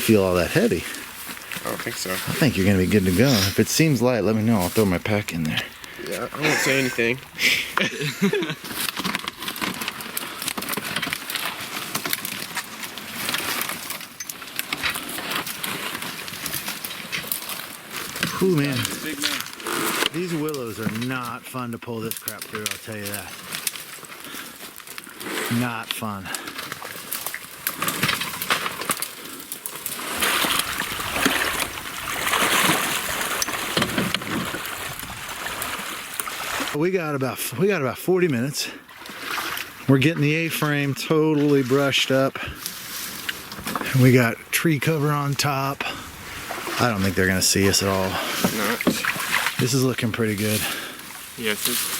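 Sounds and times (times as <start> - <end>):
brush crackling and snapping: 0.0 - 36.8, 38.9 - 51.9
water splashing and sloshing: 0.0 - 36.8, 38.3 - 51.9.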